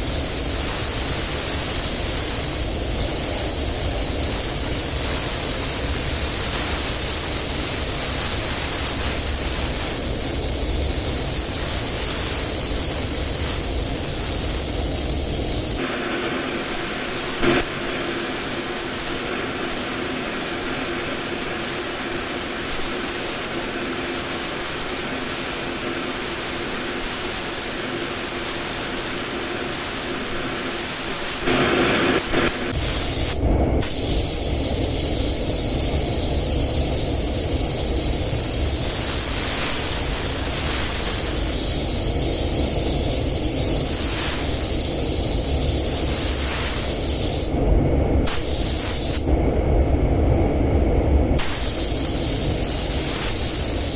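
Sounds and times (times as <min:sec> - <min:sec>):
paint spray gun hissing: 0:00.0 - 0:15.9, 0:16.6 - 0:47.6, 0:48.2 - 0:49.3, 0:51.4 - 0:53.9.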